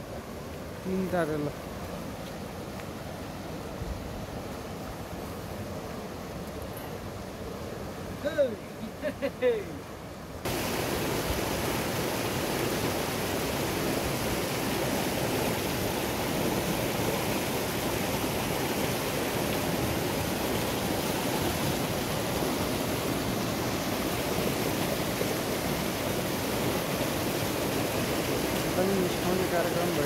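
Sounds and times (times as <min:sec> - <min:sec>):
river rushing over boulders: 0:00.0 - 0:30.0.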